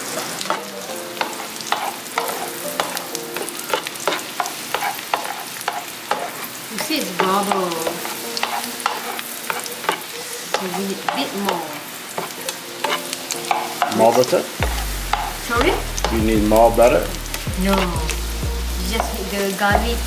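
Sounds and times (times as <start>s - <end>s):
garlic sizzling in butter: 0.0s - 20.0s
spatula scraping a pan: 0.0s - 20.0s.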